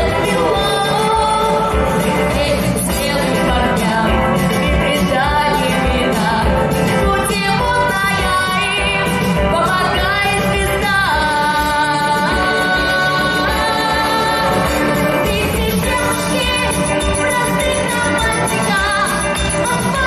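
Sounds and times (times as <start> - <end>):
full band with steady beat: 0.0 - 20.0
woman singing with vibrato: 0.0 - 20.0.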